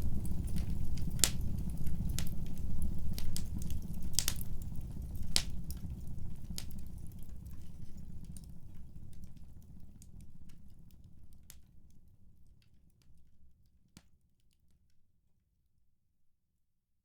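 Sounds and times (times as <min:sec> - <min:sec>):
wood fire crackling and popping: 0:00.0 - 0:14.1.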